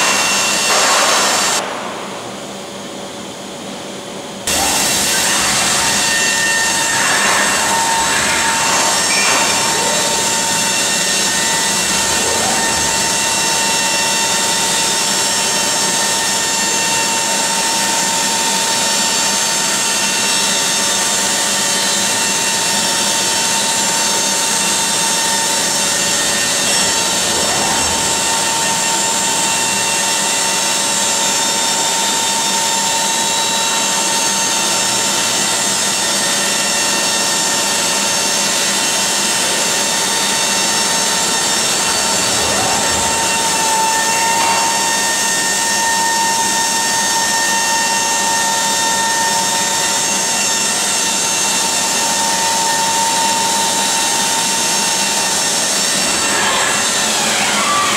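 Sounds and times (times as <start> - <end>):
grinder on metal: 4.5 - 57.9.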